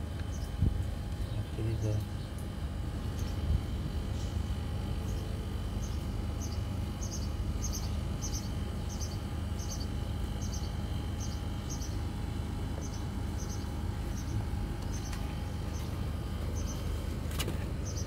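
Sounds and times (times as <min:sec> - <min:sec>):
faint hum: 0:00.0 - 0:18.0
low background rumble: 0:00.0 - 0:18.0.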